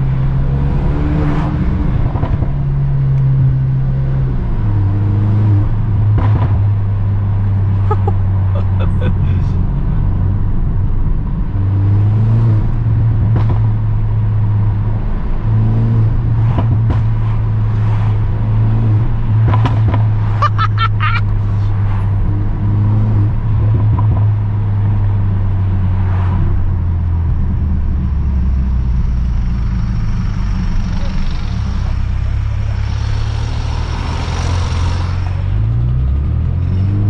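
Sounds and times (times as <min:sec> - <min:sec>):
car engine drone in cabin: 0:00.0 - 0:37.0.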